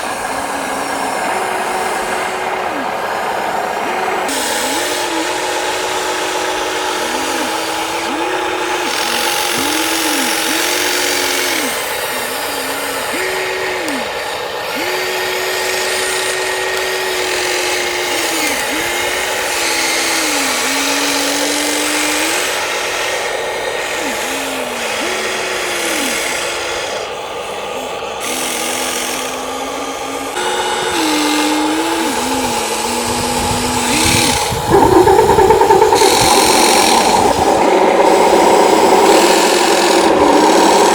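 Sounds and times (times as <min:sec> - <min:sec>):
rough loud motor: 0:00.0 - 0:40.9
small electric motors whining: 0:00.0 - 0:40.9.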